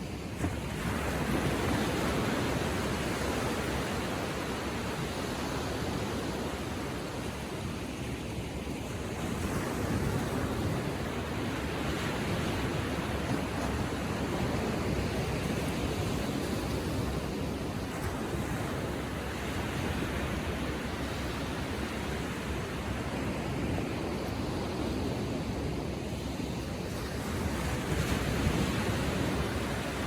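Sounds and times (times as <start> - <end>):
ocean surf washing onto beach: 0.0 - 30.0.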